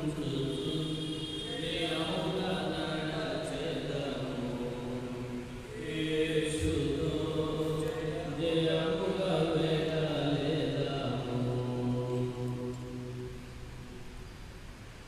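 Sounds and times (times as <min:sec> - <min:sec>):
slow liturgical chanting: 0:00.0 - 0:15.0.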